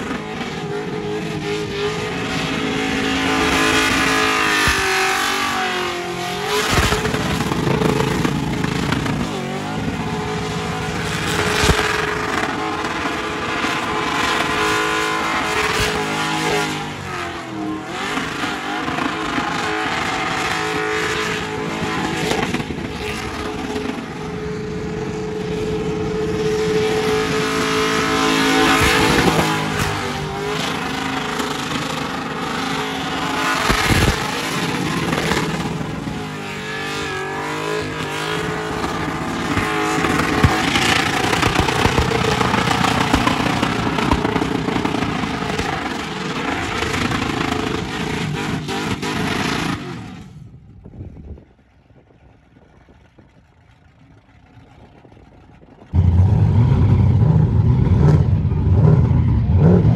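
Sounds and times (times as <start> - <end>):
car engine revving high: 0.0 - 50.0, 56.0 - 59.9.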